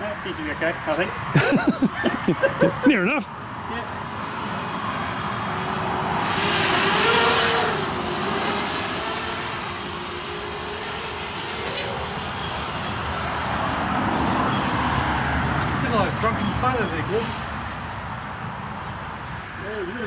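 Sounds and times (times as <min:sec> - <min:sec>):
quadcopter motors buzzing: 0:00.4 - 0:20.0.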